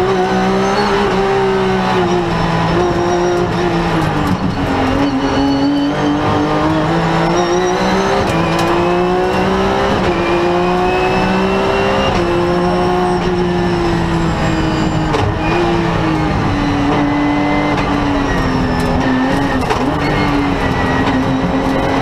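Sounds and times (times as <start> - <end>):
rally car engine at full throttle: 0.0 - 22.0.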